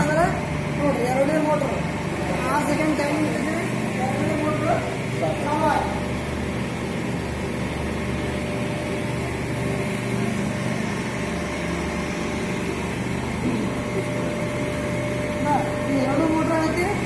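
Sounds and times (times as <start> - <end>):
electric motors humming: 0.0 - 17.0.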